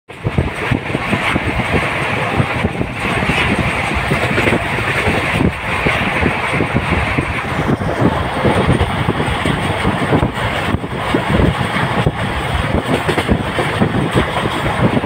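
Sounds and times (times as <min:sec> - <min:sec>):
train rumble and rattle: 0:00.1 - 0:15.0.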